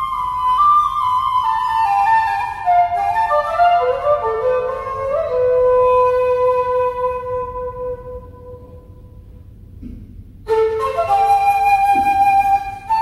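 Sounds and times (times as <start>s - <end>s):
shakuhachi and koto duet: 0.0s - 9.2s, 10.4s - 13.0s.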